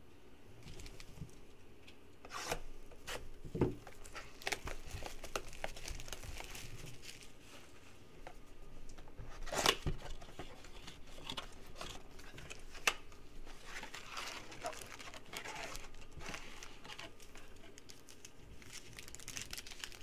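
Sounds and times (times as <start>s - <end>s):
plastic wrap tearing and crinkling: 0.6s - 1.4s, 2.3s - 7.4s, 9.3s - 20.0s.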